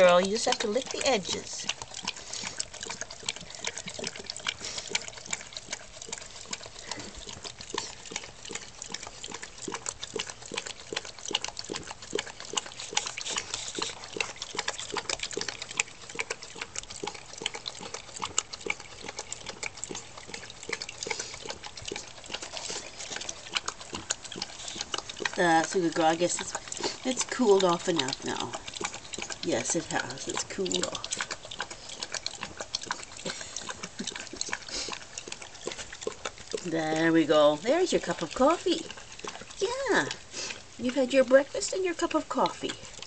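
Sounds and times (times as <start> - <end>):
dog lapping from bowl: 0.0 - 43.0.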